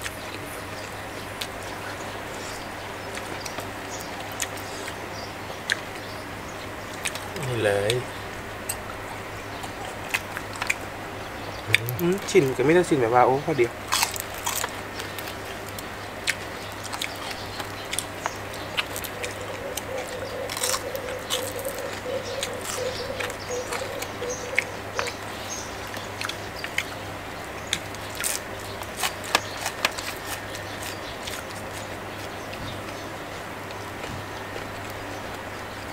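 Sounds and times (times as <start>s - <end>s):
chewing and crunching food: 0.0s - 35.9s
steady low hum: 0.0s - 35.9s.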